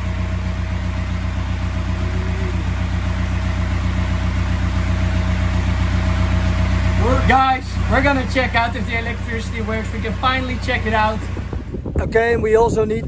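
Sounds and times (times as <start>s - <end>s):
diesel engine idling: 0.0s - 12.2s.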